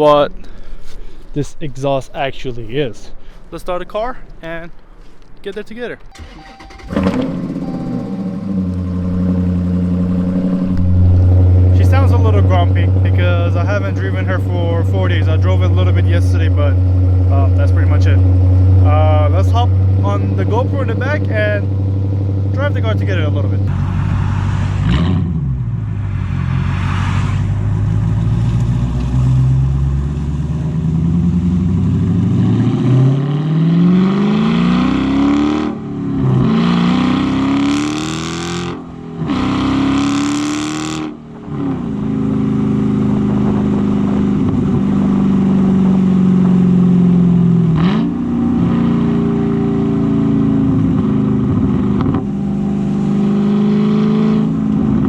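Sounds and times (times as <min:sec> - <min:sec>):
car engine accelerating: 0:06.0 - 0:55.0.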